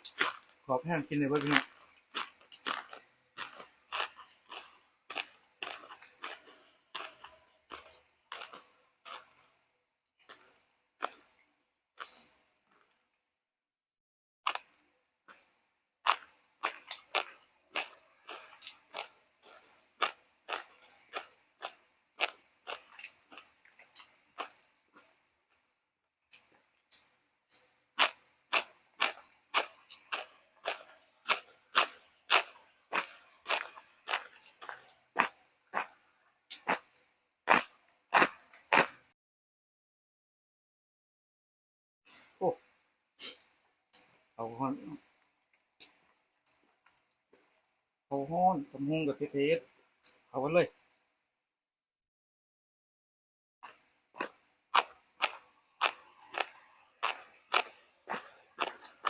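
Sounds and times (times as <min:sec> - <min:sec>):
crispy fried fish chewing: 0:00.0 - 0:13.2, 0:14.5 - 0:39.1, 0:42.1 - 0:47.9, 0:53.6 - 0:59.0.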